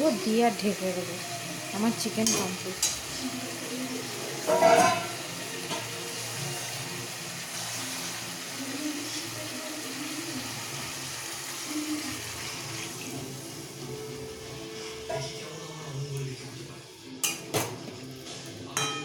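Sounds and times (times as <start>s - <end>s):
food hissing in a pan: 0.0s - 17.2s.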